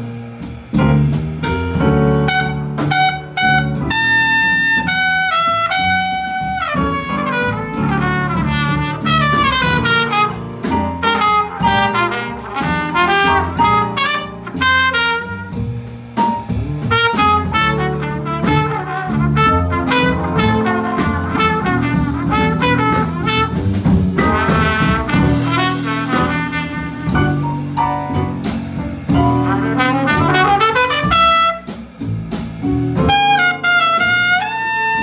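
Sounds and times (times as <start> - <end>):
drums: 0.0 - 35.0
jazz trumpet solo: 0.0 - 35.0
upright bass: 0.0 - 35.0.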